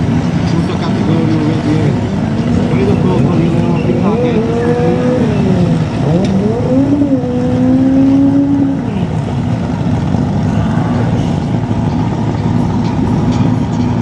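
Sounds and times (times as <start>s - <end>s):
racing car engine accelerating: 0.0s - 13.6s.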